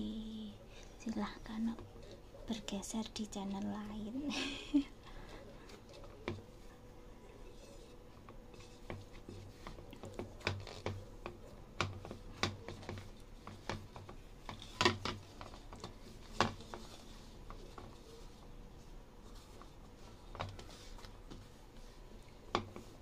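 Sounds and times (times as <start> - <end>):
hand kneading dough in bowl: 0.0 - 23.0.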